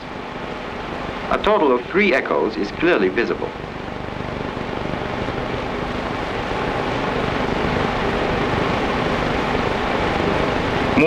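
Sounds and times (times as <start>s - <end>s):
faint low hum: 0.0s - 11.0s
steady rushing noise: 0.0s - 11.0s.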